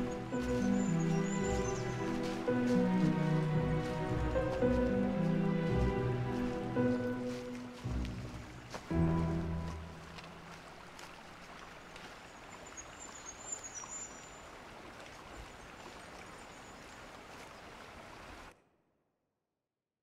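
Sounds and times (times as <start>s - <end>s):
stream rushing over rocks: 0.0s - 18.5s.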